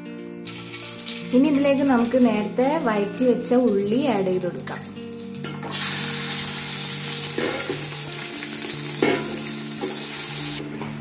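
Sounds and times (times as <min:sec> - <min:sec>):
onions sizzling in oil: 0:00.5 - 0:10.6.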